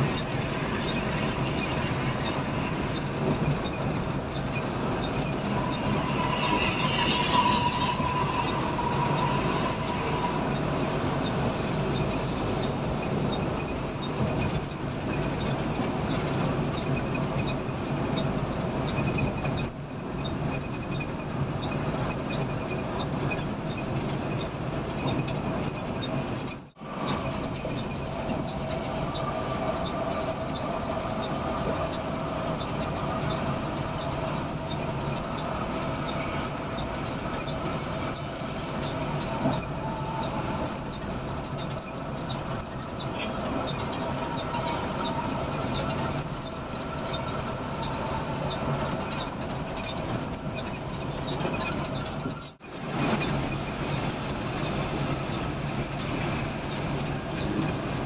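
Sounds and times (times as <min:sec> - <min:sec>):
coach engine and road rumble: 0:00.0 - 0:58.0.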